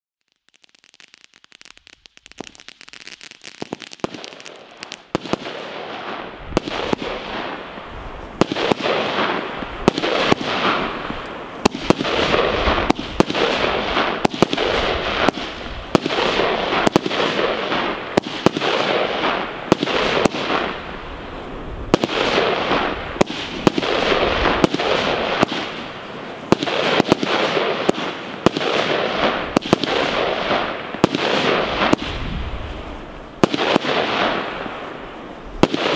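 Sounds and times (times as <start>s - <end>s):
hissing firework stars: 0.2s - 35.9s
firework bangs: 0.3s - 35.9s.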